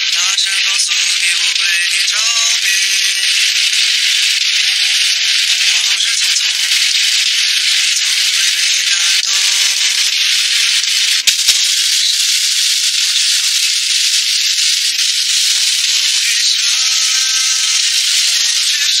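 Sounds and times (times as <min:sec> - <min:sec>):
sauce sizzling in a pan: 0:00.0 - 0:19.0
sharp clicks: 0:00.2 - 0:16.4.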